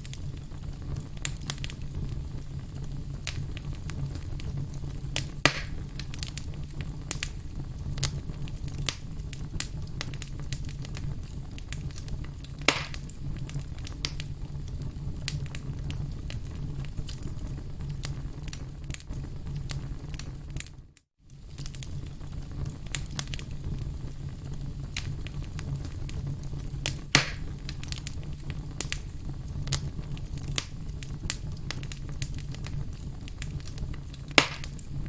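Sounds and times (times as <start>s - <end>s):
firewood crackling and popping: 0.0s - 35.0s.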